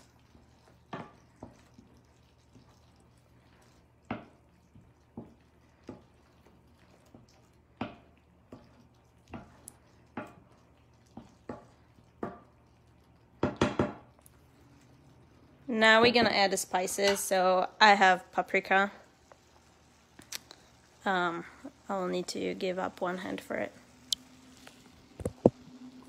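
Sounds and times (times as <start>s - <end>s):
sauce bubbling in a frying pan: 0.0s - 26.0s.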